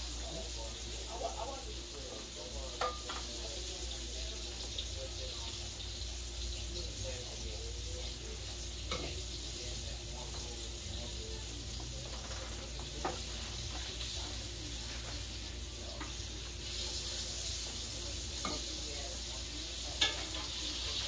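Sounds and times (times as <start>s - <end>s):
background hiss and hum: 0.0s - 21.0s.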